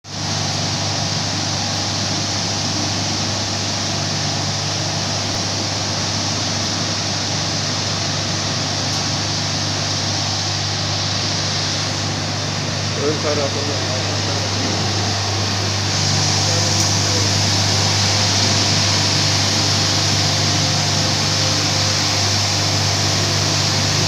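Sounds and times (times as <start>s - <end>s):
loud even hiss: 0.1s - 24.0s
machine motor humming: 0.1s - 24.0s.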